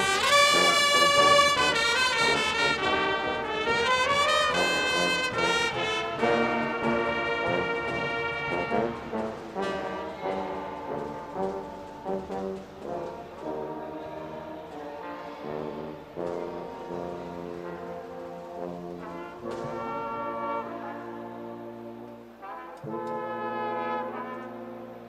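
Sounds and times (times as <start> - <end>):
brass section playing chords: 0.0 - 25.0.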